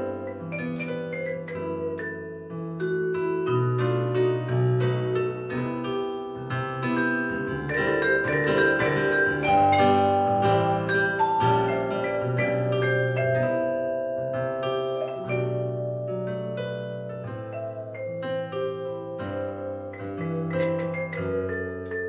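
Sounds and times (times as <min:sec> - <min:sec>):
vibraphone notes ringing: 0:00.0 - 0:04.0, 0:06.8 - 0:22.0
piano chords and bass notes: 0:00.0 - 0:22.0.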